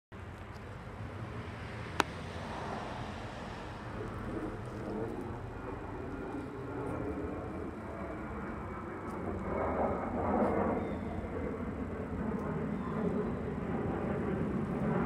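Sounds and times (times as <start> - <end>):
steady low rumble: 0.2 - 15.0.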